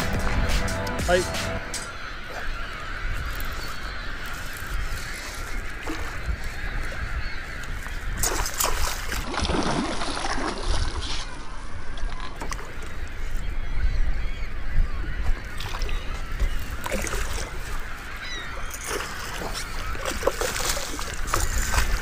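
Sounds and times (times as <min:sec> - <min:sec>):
gulls calling: 0:00.0 - 0:09.2, 0:12.2 - 0:22.0.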